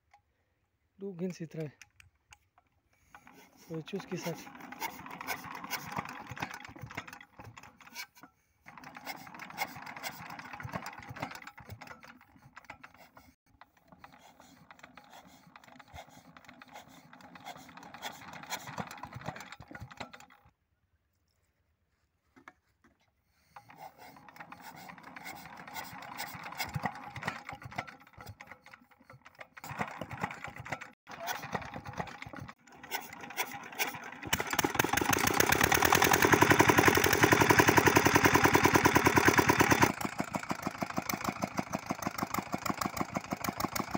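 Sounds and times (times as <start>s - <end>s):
engine crank clattering: 1.1s - 20.5s, 22.4s - 43.9s.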